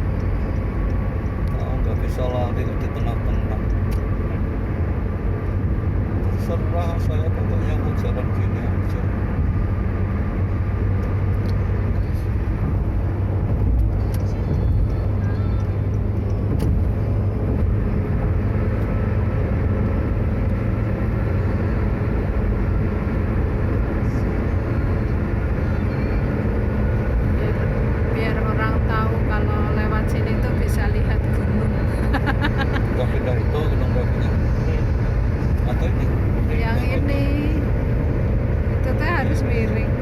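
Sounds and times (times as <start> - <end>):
car cabin road and engine noise: 0.0 - 40.0.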